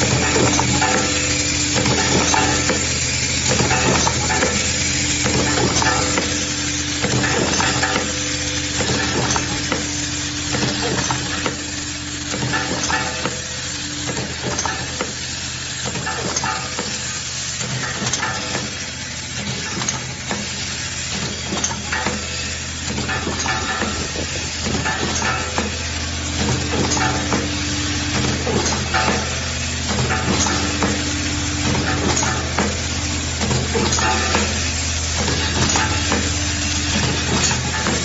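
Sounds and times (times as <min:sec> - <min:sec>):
higher machine tone: 0:00.0 - 0:17.2, 0:21.9 - 0:38.0
machine humming: 0:00.0 - 0:38.0.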